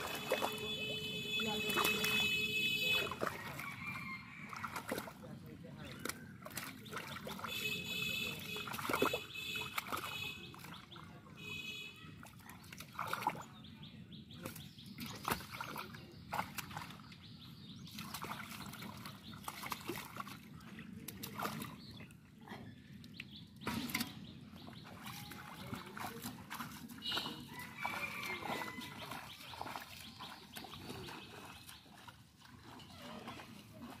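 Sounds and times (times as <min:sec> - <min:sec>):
hands squelching in wet mud: 0:00.0 - 0:34.0
small water splashes: 0:00.0 - 0:34.0.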